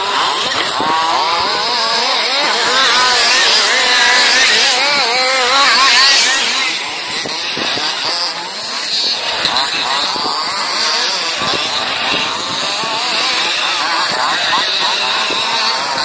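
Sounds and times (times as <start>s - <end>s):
two-stroke engines revving: 0.0s - 16.0s.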